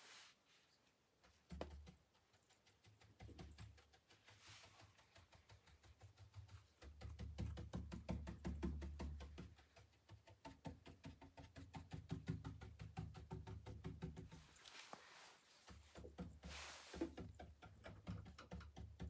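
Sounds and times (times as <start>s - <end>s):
paint brush tapping on wood: 1.2s - 19.0s.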